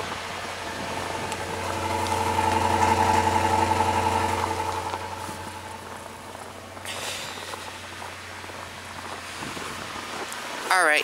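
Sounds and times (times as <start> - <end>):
engine idling: 0.0 - 10.2.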